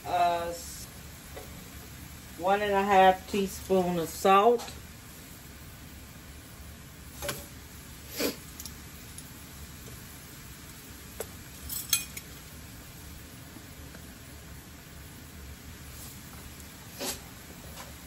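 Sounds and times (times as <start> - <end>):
faint vegetables sizzling: 0.0 - 18.0.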